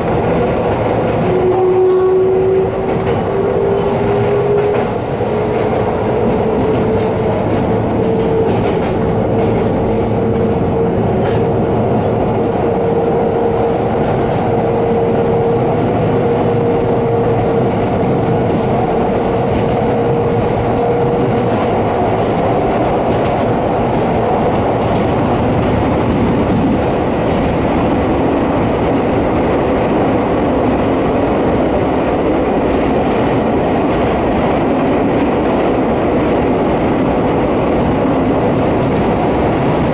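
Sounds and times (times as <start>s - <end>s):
train wheels running on rails: 0.0s - 39.9s.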